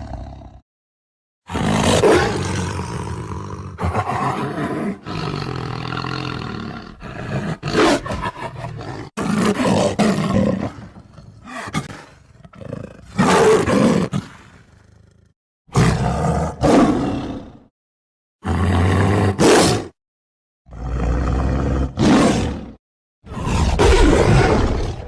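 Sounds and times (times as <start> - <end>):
tiger roaring and growling: 0.0 - 0.6, 1.5 - 17.7, 18.4 - 20.0, 20.7 - 25.0.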